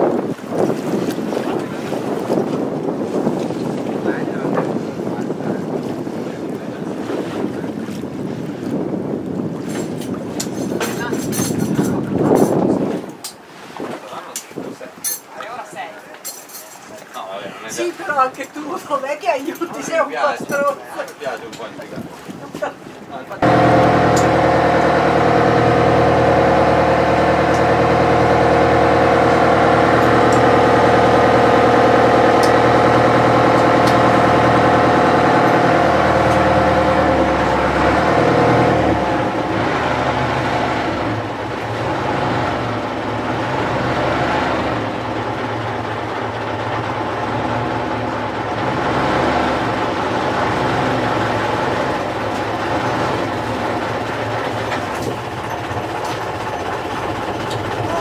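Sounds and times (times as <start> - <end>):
boat engine running: 0.0 - 14.8, 17.4 - 58.0.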